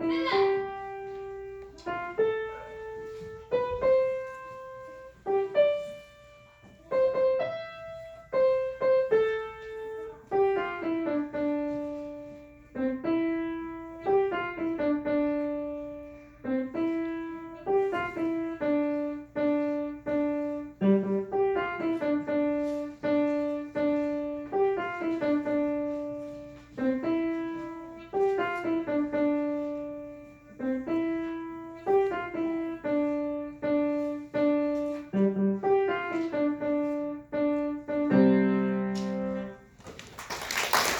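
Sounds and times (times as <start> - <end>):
piano music: 0.0 - 39.8.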